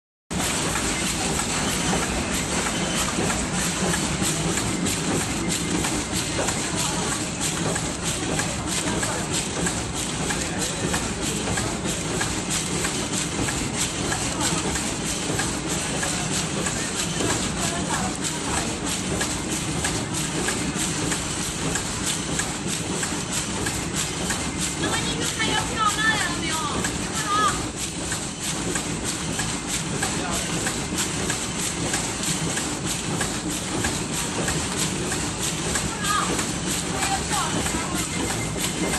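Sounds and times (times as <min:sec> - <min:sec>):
packaging machine humming: 0:00.3 - 0:38.9.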